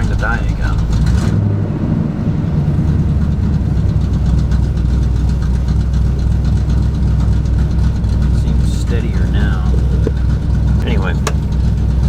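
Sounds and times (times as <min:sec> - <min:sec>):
truck engine idling rough: 0:00.0 - 0:12.0.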